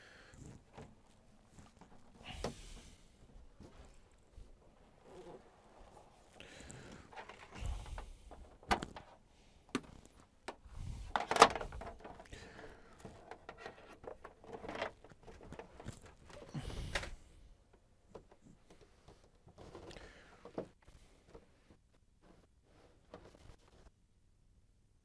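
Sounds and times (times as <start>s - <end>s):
rustling: 0.0s - 24.0s.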